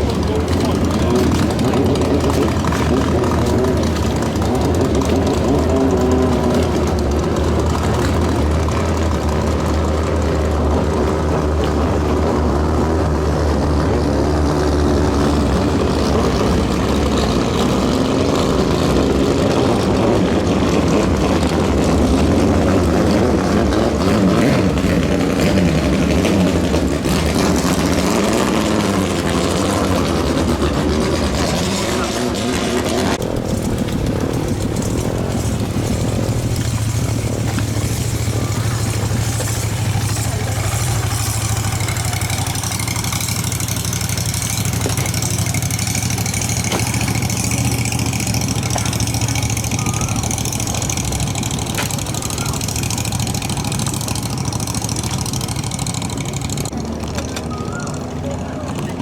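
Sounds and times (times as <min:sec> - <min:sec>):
boat engines running: 0:00.0 - 0:59.0.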